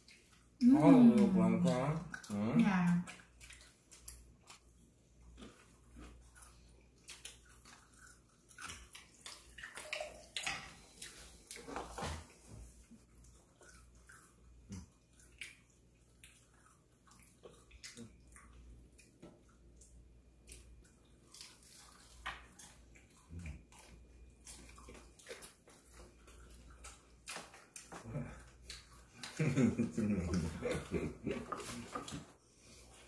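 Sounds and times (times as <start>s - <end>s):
people eating with crunches: 0.0s - 33.0s.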